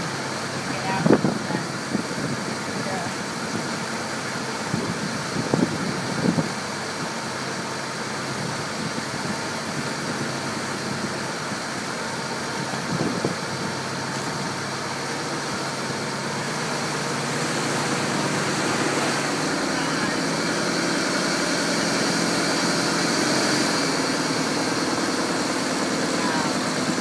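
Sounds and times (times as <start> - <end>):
boat engine running: 0.0 - 27.0
churning boat wake: 0.0 - 27.0.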